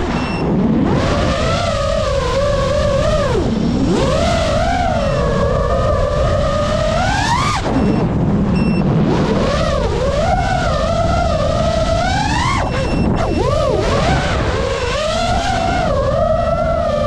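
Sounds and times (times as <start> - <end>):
drone motors whining: 0.0 - 17.0
low rush of wind: 0.0 - 17.0.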